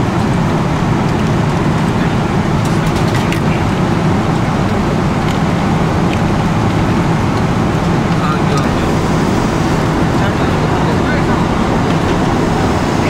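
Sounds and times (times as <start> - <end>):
airliner cabin noise in flight: 0.0 - 13.0.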